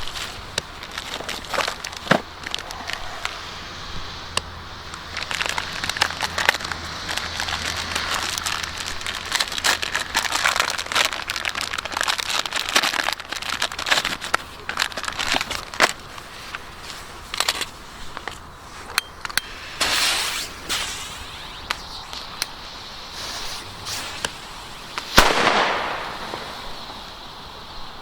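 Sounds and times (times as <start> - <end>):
crackling firework pops: 0.0 - 16.6, 17.3 - 27.8.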